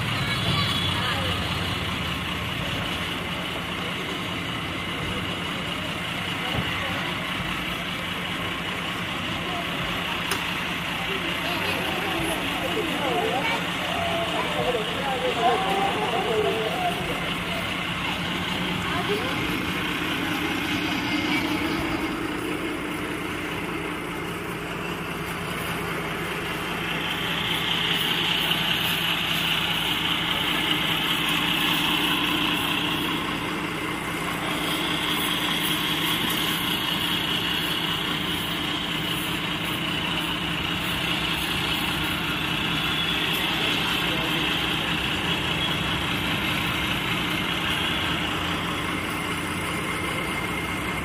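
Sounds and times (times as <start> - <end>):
bus engine humming: 0.0 - 51.0.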